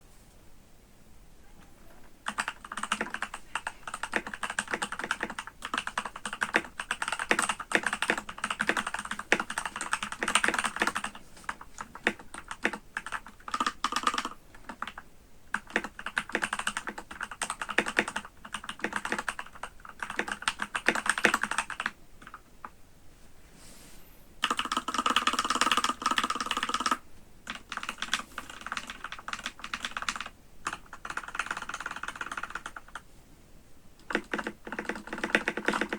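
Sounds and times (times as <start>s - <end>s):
mechanical keyboard typing: 2.2s - 22.7s, 24.4s - 33.0s, 34.0s - 35.9s.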